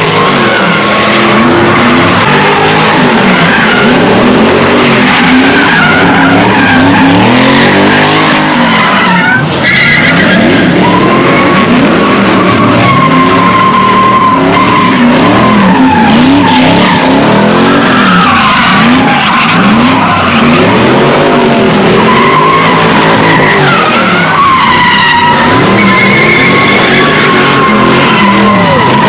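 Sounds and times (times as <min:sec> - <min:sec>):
car engine revving: 0:00.0 - 0:29.0
tires squealing: 0:00.0 - 0:29.0.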